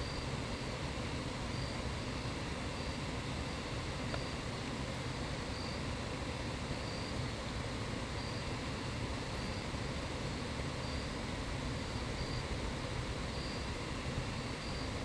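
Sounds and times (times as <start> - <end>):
low outdoor rumble and hiss: 0.0 - 15.0.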